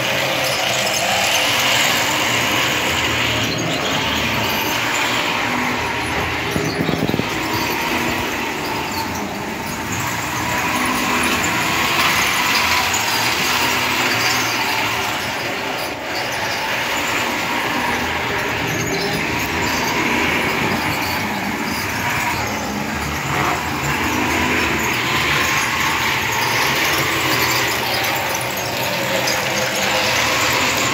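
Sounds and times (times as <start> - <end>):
model train motor whirring: 0.0 - 30.9
wheels rattling on rails: 0.0 - 30.9.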